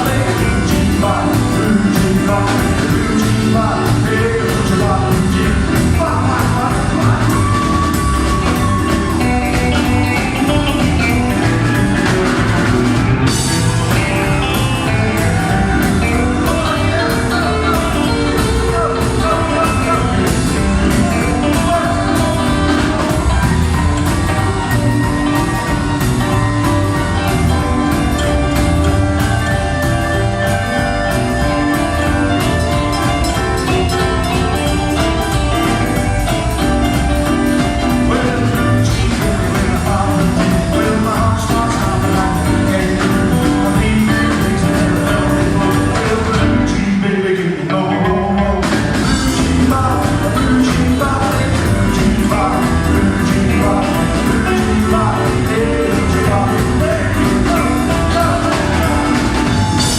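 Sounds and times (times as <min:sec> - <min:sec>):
drum kit beat: 0:00.0 - 0:59.9
person singing: 0:00.0 - 0:59.9
rockabilly band playing: 0:00.0 - 0:59.9.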